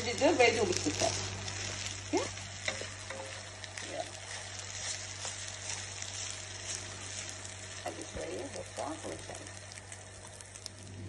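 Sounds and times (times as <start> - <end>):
wooden spoon stirring and scraping: 0.0 - 10.8
food sizzling softly in a pot: 0.0 - 11.0.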